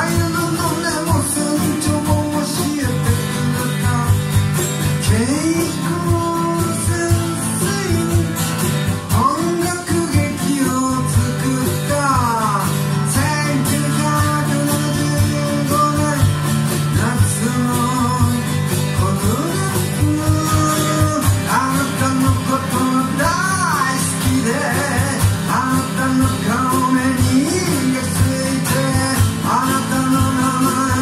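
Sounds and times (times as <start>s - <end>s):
drums steady beat: 0.0s - 31.0s
man singing: 0.0s - 31.0s
strummed acoustic guitar: 0.0s - 31.0s.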